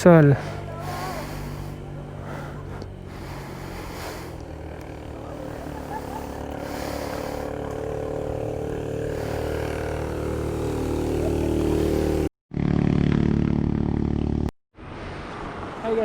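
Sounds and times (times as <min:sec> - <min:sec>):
scooter engine running: 0:00.0 - 0:14.5.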